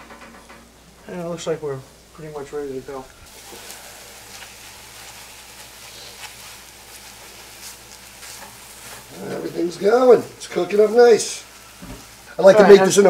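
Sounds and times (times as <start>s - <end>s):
meat sizzling in frying pan: 2.0s - 13.0s.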